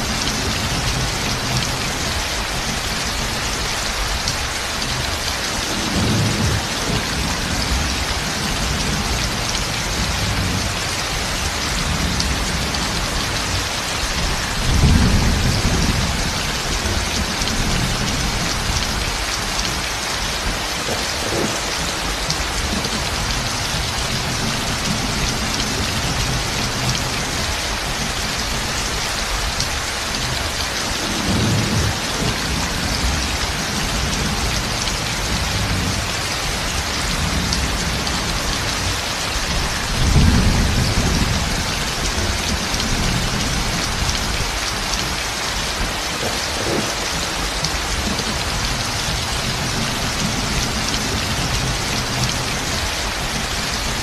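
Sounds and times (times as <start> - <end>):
heavy rain on a roof: 0.0 - 54.0
low thunder rumbling: 0.0 - 54.0.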